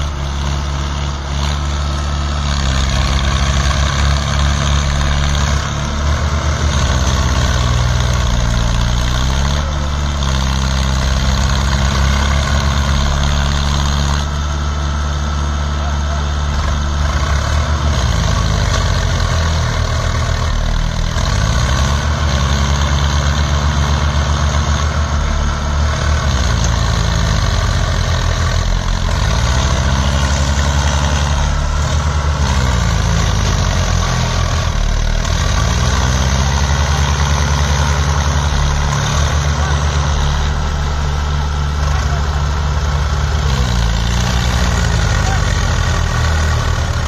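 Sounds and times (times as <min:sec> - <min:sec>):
tractor diesel engines revving: 0:00.0 - 0:47.0.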